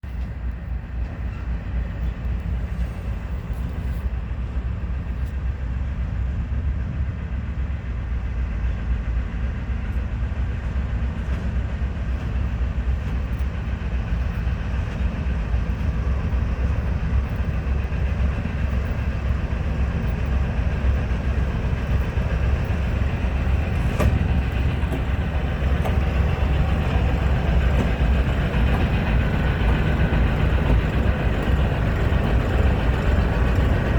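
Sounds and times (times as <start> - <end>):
locomotive engine rumble: 0.0 - 33.9
rail noise: 0.0 - 33.9.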